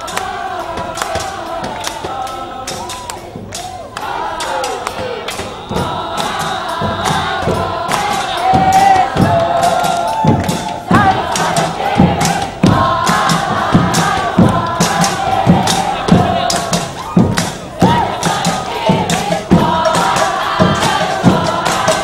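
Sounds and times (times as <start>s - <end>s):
large outdoor crowd: 0.0s - 22.0s
music with singing: 0.0s - 22.0s.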